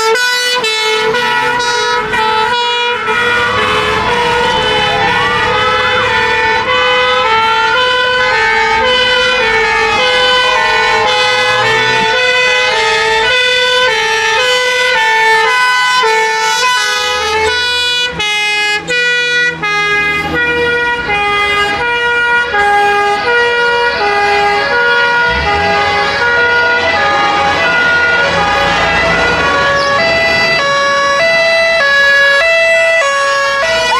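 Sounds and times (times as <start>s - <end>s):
fire engine two-tone sirens: 0.0s - 33.9s
truck engines rumbling: 0.0s - 33.9s
wailing siren: 0.0s - 33.9s.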